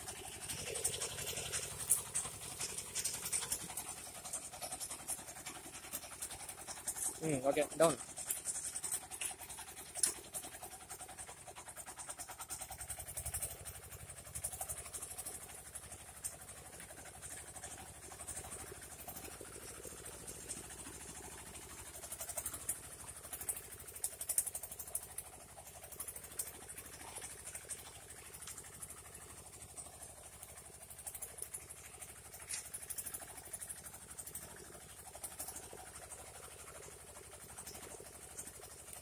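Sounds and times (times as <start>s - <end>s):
mini tractor engine running: 0.0s - 39.0s.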